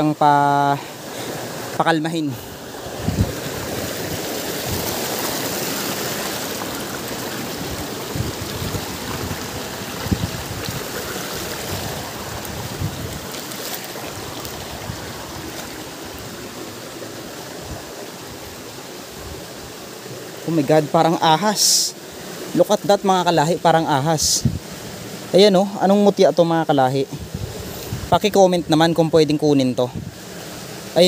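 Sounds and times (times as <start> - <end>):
stream running water: 0.0 - 31.0.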